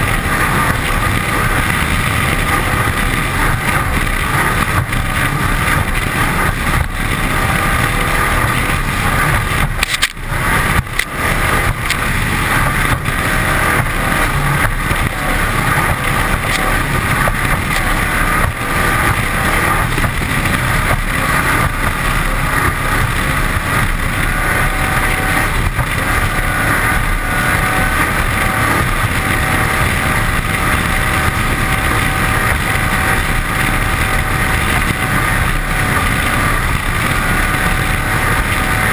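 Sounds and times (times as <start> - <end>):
hull spray rushing: 0.0 - 38.9
powerboat engine running: 0.0 - 38.9
wind on microphone: 0.0 - 38.9.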